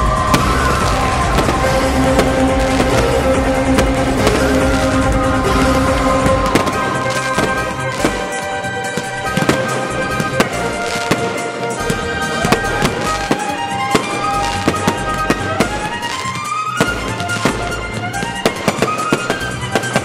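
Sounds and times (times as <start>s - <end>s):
fireworks bursting and crackling: 0.0s - 20.0s
music with long held notes: 0.0s - 20.0s.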